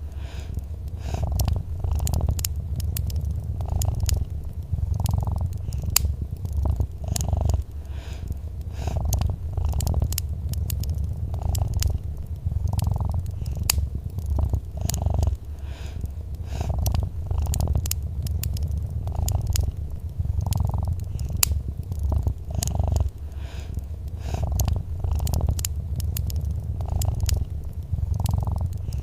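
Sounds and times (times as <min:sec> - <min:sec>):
cat purring: 0:00.0 - 0:29.0
wood fire crackling: 0:00.0 - 0:29.0.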